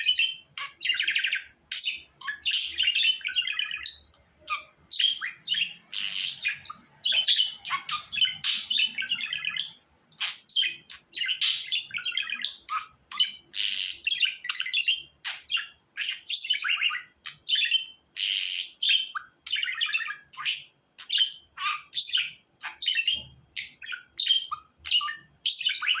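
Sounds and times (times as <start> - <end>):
budgerigars chirping and warbling: 0.0 - 26.0.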